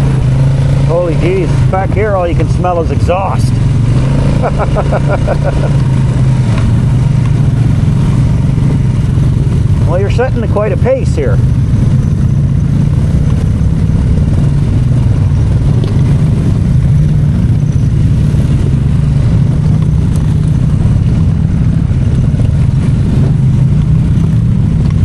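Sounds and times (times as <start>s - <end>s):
quad engine droning: 0.0s - 25.0s.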